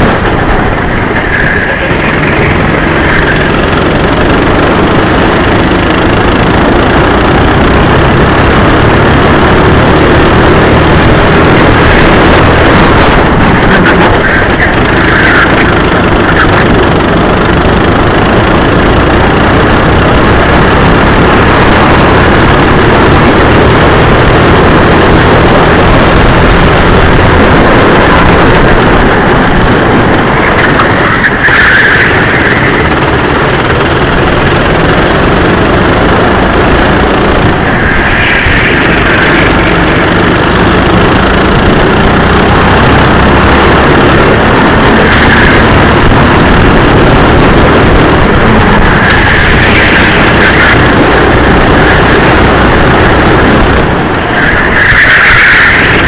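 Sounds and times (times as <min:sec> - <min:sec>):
kart engine running hard: 0:00.0 - 0:56.0
wind noise on microphone: 0:00.0 - 0:56.0.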